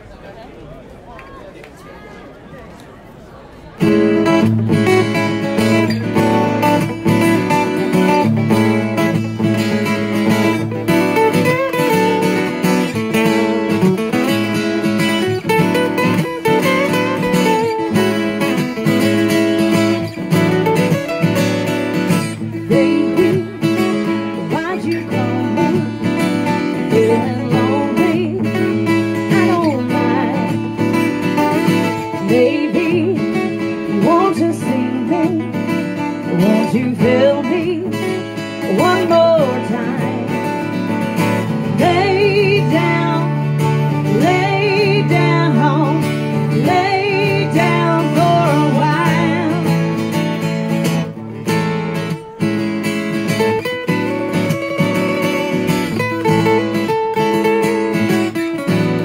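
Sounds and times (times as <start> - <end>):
acoustic guitars playing blues: 3.5 - 59.0.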